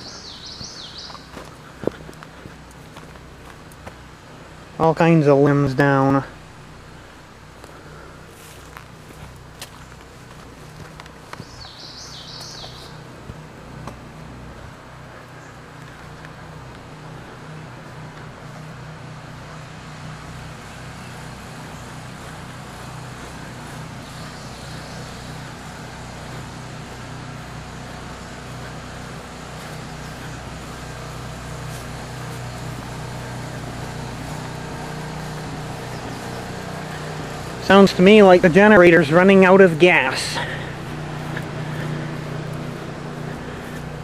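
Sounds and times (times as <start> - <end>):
generator engine humming: 0.0 - 44.0.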